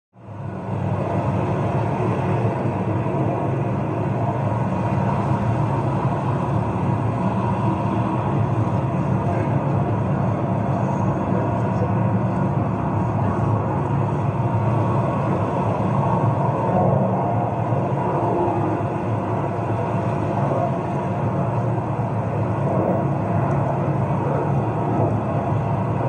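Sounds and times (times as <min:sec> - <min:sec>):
outdoor ambience: 0:00.2 - 0:26.0
vehicles rumbling: 0:00.4 - 0:26.0.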